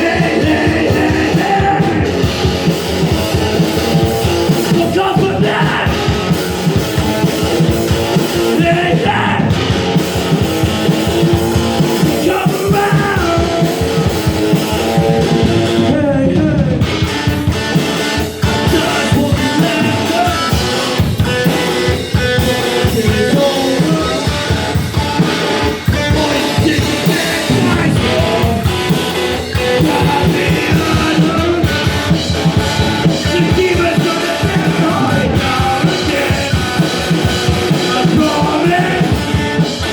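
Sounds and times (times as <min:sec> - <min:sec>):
person singing: 0:00.0 - 0:02.6, 0:04.5 - 0:06.4, 0:08.4 - 0:09.6, 0:11.8 - 0:14.2, 0:14.8 - 0:17.0, 0:18.3 - 0:39.9
drum kit: 0:00.0 - 0:39.9
electric guitar: 0:00.0 - 0:39.9.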